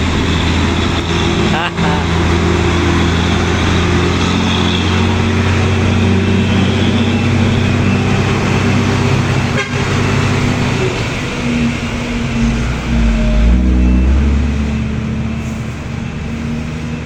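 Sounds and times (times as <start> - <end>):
road traffic: 0.0 - 17.0
vehicle engine humming: 0.0 - 17.0.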